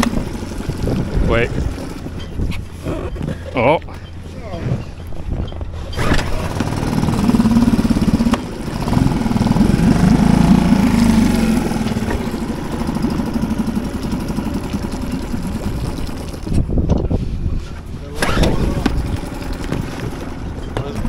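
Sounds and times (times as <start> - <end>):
small outboard motor running: 0.0 - 5.1, 5.9 - 21.0.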